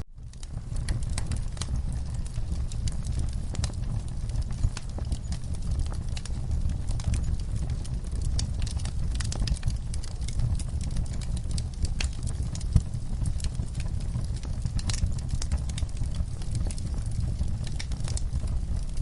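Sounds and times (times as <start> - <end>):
low rumble of flames: 0.0 - 19.0
fire crackles and pops: 0.1 - 19.0.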